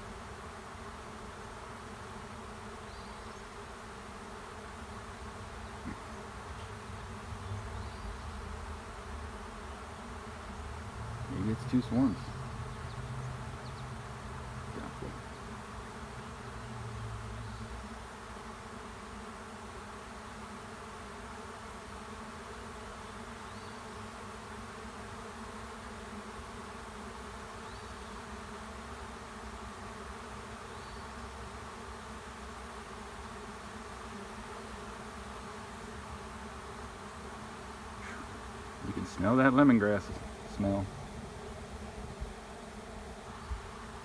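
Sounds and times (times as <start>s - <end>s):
bee swarm buzzing: 0.0s - 44.0s.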